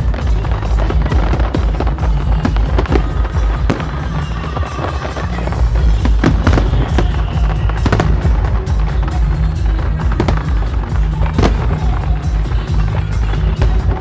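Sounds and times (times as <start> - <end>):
firework bangs and crackles: 0.0 - 14.0
music from loudspeakers: 0.0 - 14.0.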